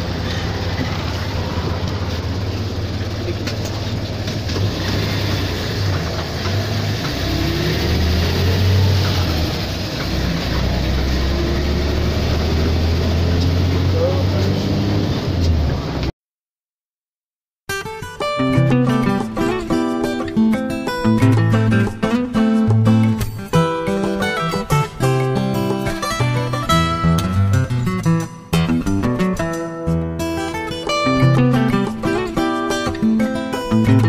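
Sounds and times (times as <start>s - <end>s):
bus engine humming: 0.0s - 16.1s, 18.3s - 34.0s.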